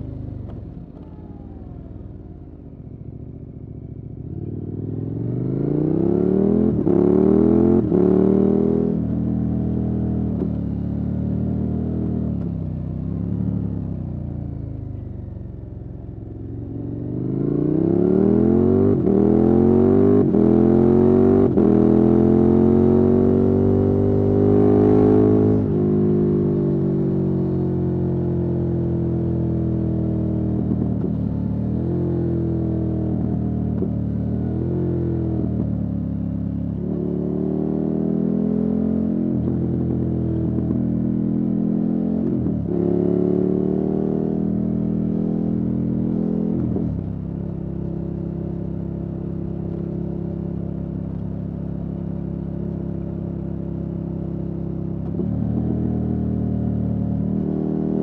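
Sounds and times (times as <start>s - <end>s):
motorcycle engine revving: 3.8s - 10.5s, 16.5s - 58.0s.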